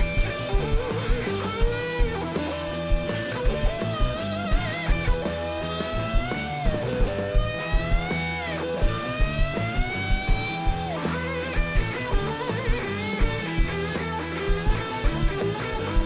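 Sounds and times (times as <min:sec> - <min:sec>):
blues-rock band playing: 0:00.0 - 0:16.0
electric guitar lead: 0:00.0 - 0:16.0.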